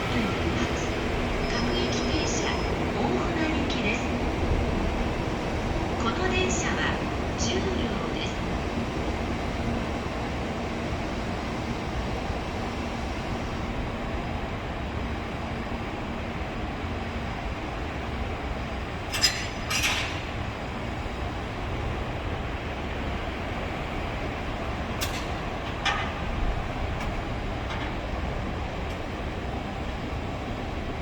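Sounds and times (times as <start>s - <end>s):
low rumble of train wagons: 0.0s - 31.0s.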